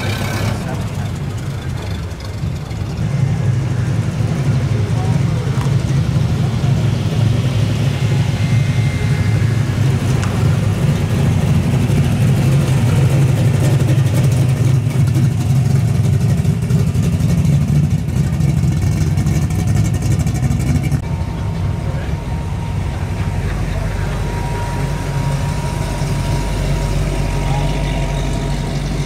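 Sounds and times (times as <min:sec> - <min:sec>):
car engines cruising past: 0:00.0 - 0:29.0.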